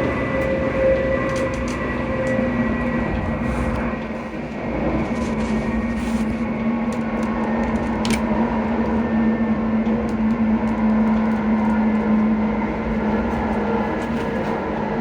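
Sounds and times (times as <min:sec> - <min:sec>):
train traction motors humming: 0:00.0 - 0:15.0
train wheels rumbling on track: 0:00.0 - 0:15.0.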